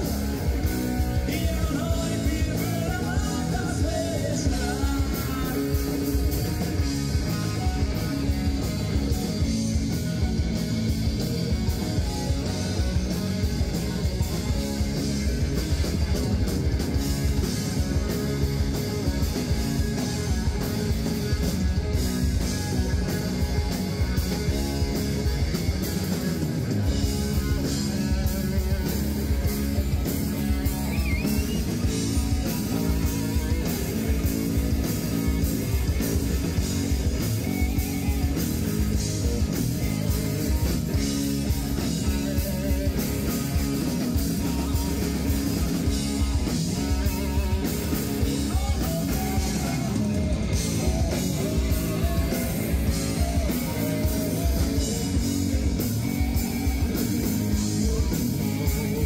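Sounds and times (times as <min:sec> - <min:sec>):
live rock music: 0:00.0 - 0:59.0.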